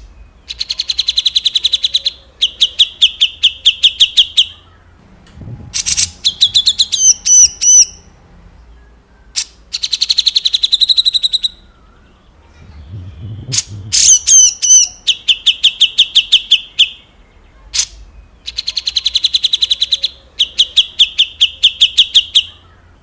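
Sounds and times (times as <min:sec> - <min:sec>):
songbird singing rapid phrases: 0:00.0 - 0:23.0.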